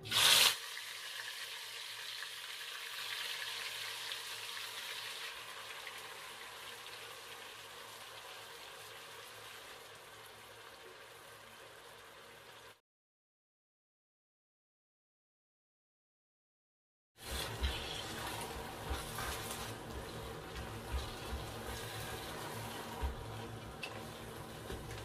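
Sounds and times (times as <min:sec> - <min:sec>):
mixture sizzling in hot oil: 0:00.0 - 0:12.8, 0:17.2 - 0:25.0.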